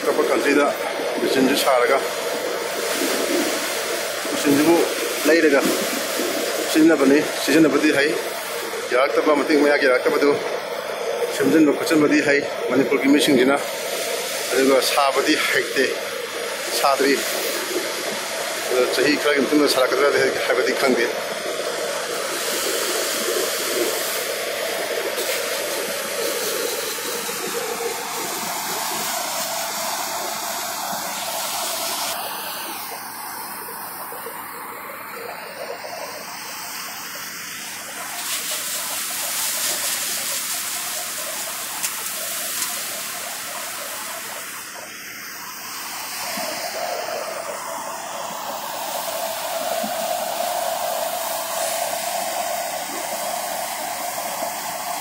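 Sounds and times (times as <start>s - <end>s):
threshing machine whirring: 0.0s - 55.0s.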